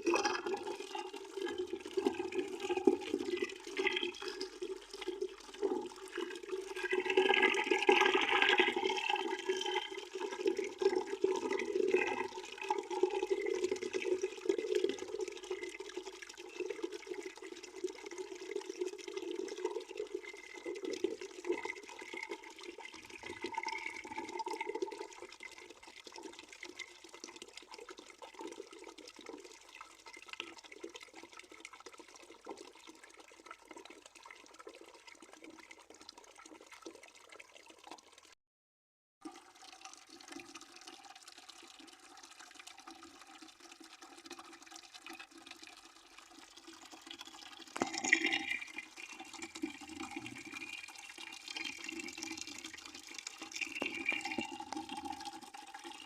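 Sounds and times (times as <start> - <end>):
water splashing into a bucket: 0.0 - 38.4, 39.2 - 56.0.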